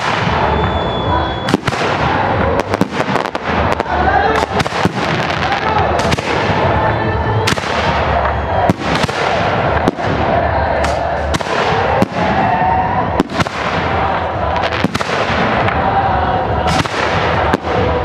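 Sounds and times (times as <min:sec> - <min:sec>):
fireworks bursting with echo: 0:00.0 - 0:18.0.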